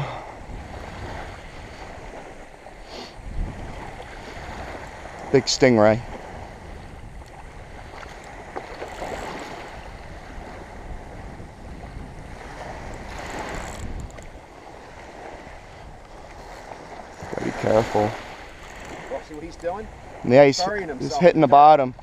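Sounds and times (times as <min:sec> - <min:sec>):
small waves washing on sand: 0:00.0 - 0:21.8
wind buffeting microphone: 0:00.0 - 0:22.0.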